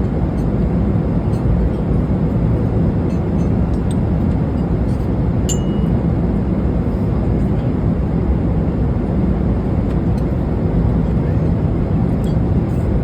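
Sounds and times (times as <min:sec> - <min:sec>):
airliner cabin engine rush: 0:00.0 - 0:13.0.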